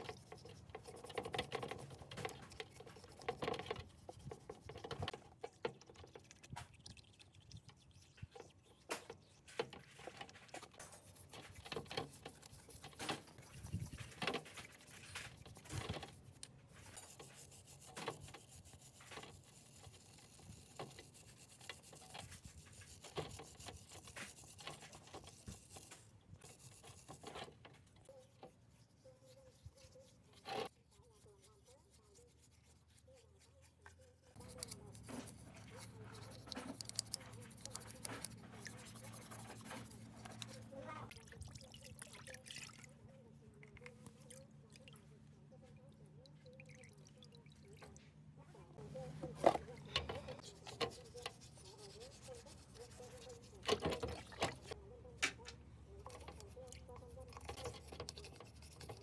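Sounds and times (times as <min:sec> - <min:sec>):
scraping or rubbing: 0:00.0 - 0:41.1, 0:48.8 - 0:54.8, 0:55.9 - 0:59.0.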